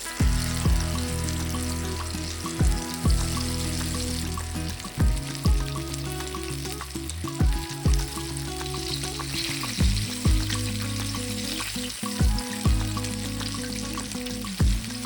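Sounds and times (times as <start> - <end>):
background music with deep beat: 0.0 - 15.0
chicken frying in hot oil: 0.0 - 15.0.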